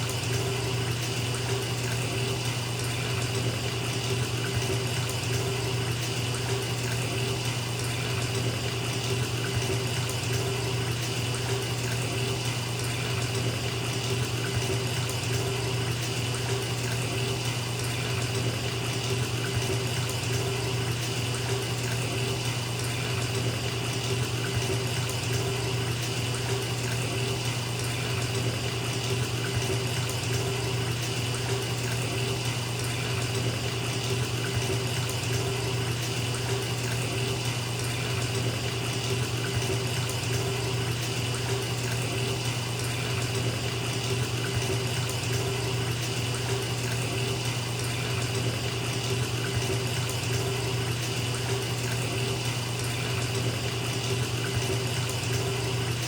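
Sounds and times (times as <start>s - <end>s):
water pouring into bathtub: 0.0s - 56.0s.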